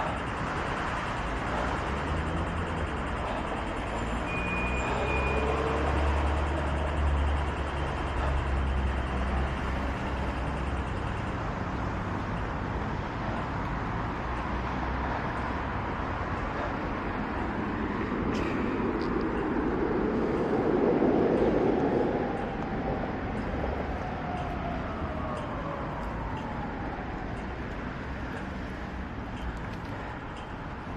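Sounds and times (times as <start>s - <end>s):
traffic noise: 0.0s - 30.9s.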